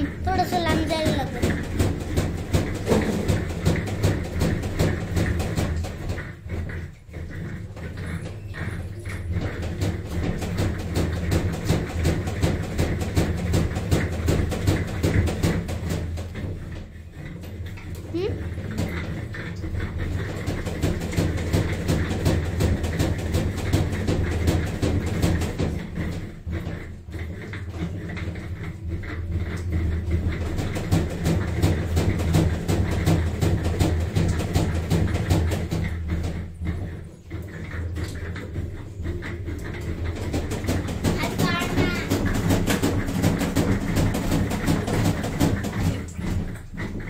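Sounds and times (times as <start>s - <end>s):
rapid uneven knocking: 0.0s - 47.0s
washing machine humming: 0.0s - 47.0s.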